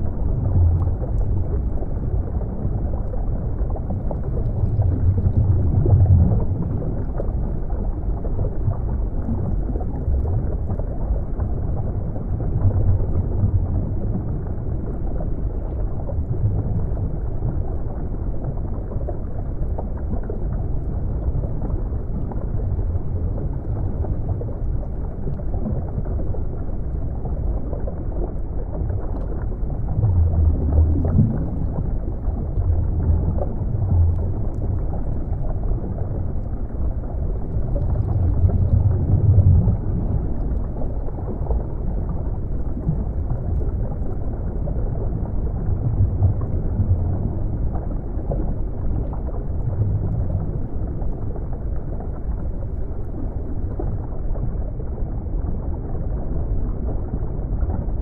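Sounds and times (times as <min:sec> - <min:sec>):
muffled underwater water rumble: 0:00.0 - 0:58.0.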